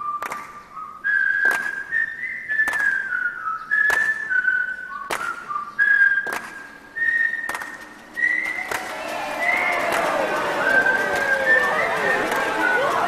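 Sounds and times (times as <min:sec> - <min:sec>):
whistled tune: 0:00.0 - 0:13.0.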